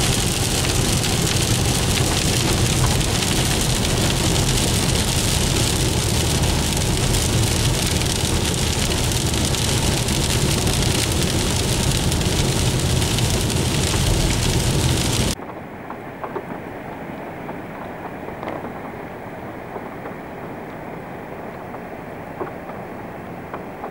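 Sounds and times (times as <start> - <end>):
heavy rain falling: 0.0 - 15.4, 16.0 - 23.9
low steady rumble: 0.0 - 23.9.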